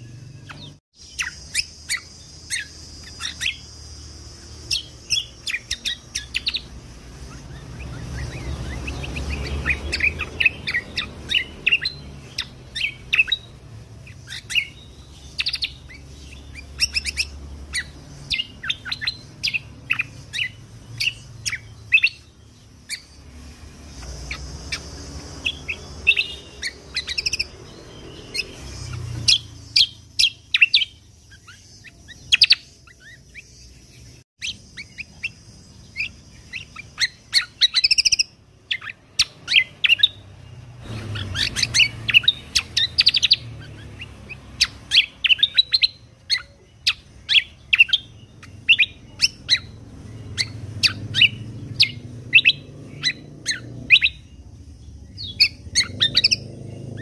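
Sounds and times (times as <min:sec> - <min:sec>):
bird chirping rapidly: 0:00.0 - 0:57.0.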